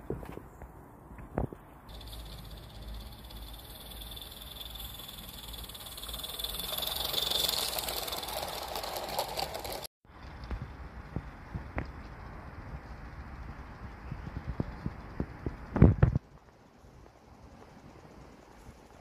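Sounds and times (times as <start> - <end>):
wheels rattling over track: 1.9 - 19.0.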